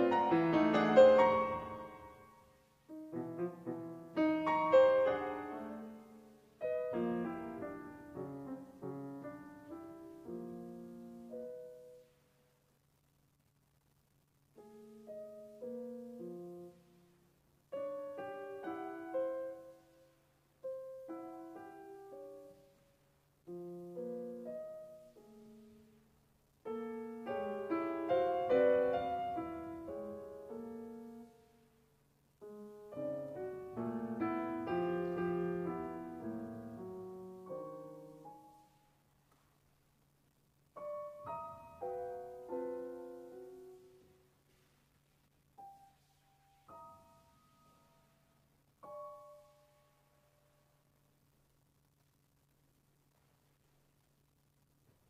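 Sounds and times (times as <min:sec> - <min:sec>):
solo piano: 0:00.0 - 0:12.4, 0:14.5 - 0:31.8, 0:32.4 - 0:39.4, 0:40.7 - 0:50.4.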